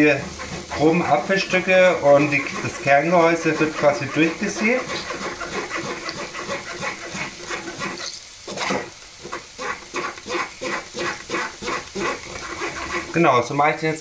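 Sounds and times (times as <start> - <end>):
spoon scraping apples through sieve: 0.0 - 13.8.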